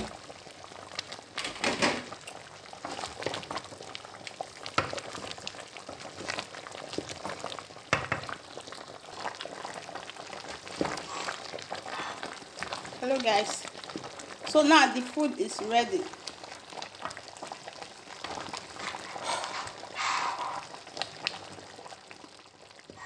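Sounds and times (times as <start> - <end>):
soup boiling and bubbling: 0.0 - 23.0.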